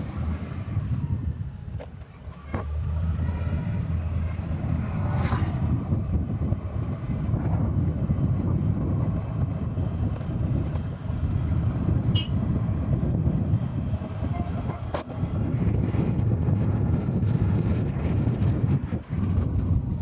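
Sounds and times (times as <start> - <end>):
motorbike engine and tyres rumbling: 0.0 - 20.0
wind buffeting microphone: 0.0 - 20.0.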